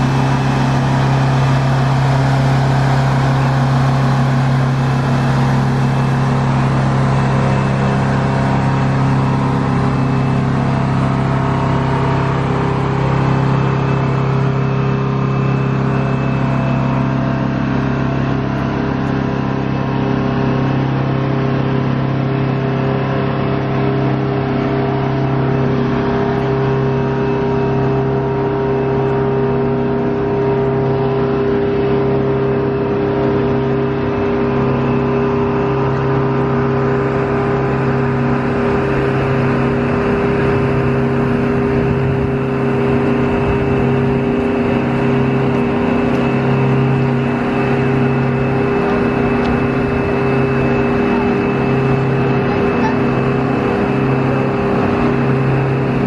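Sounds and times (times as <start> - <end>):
ground power cart engine droning: 0.0 - 56.0.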